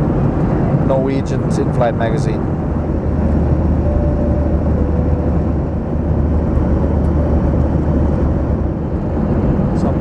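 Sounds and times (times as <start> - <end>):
airliner engine drone: 1.4 - 10.0.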